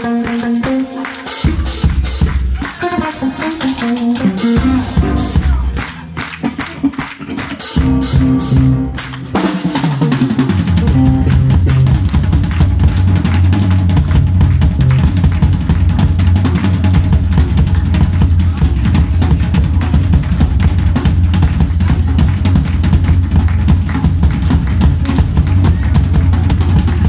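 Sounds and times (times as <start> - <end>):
live blues band playing: 0.0 - 27.0
drum kit hits: 3.4 - 5.9, 7.7 - 27.0
low bass line: 3.4 - 7.2, 7.8 - 27.0.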